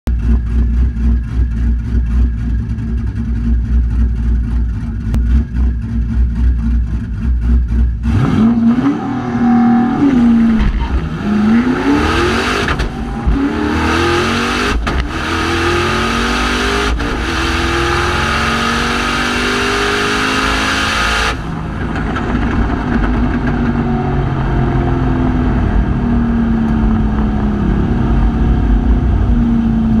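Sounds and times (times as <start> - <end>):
car engine accelerating: 0.1 - 30.0.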